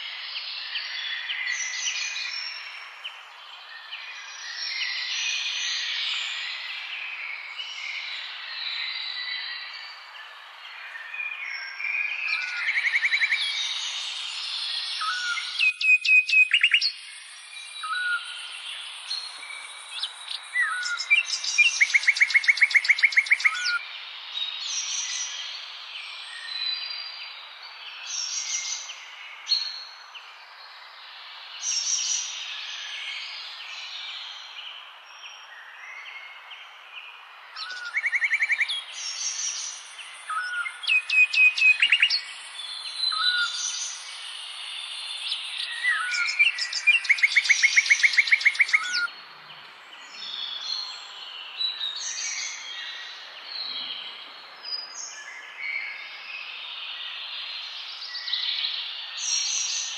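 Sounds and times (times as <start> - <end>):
songbirds singing and calling: 0.0 - 59.9.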